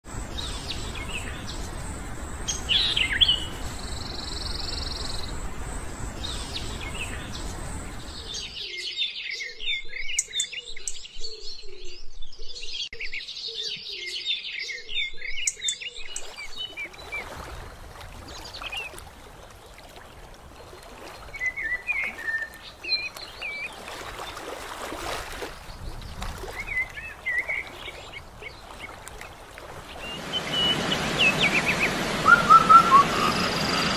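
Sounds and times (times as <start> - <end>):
outdoor background noise: 0.0 - 33.9
birds chirping and trilling: 0.1 - 17.5, 20.4 - 33.9.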